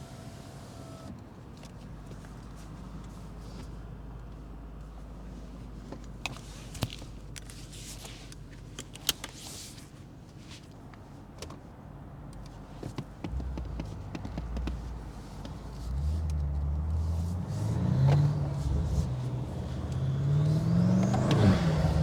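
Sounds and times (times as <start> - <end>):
car engine rumbling: 0.0 - 9.0, 11.2 - 22.0.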